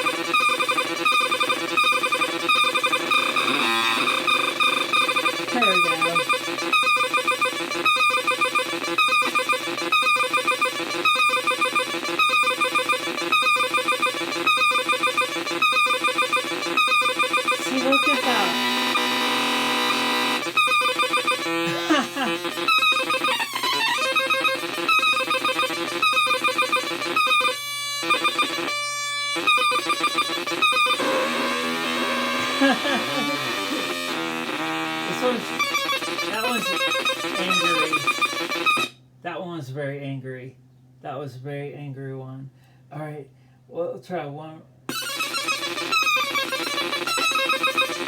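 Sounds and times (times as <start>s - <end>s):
buzzy warbling synth tone: 0.0s - 38.9s.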